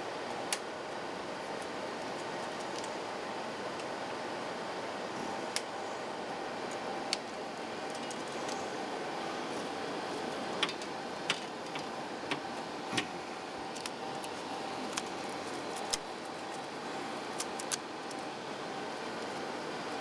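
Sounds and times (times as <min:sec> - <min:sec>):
projector mechanical hum: 0:00.0 - 0:20.0.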